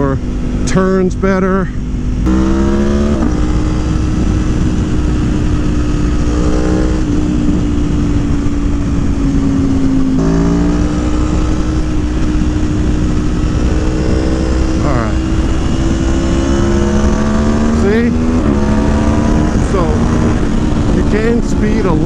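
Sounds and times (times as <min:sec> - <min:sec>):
motorcycle engine revving: 0:00.0 - 0:22.0
wind rush: 0:01.7 - 0:22.0.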